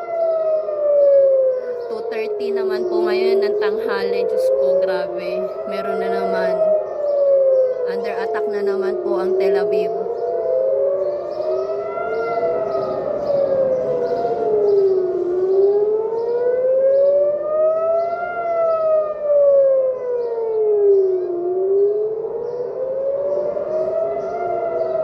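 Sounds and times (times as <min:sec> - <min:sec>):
air-raid sirens wailing: 0:00.0 - 0:25.0.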